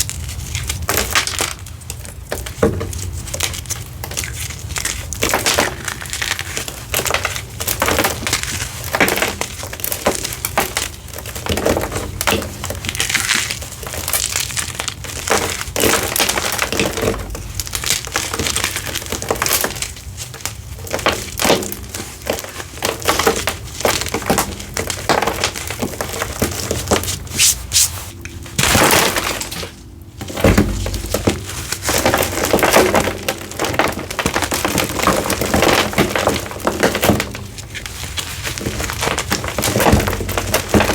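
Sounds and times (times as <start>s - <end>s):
chalk crunching and cracking: 0.0s - 40.9s.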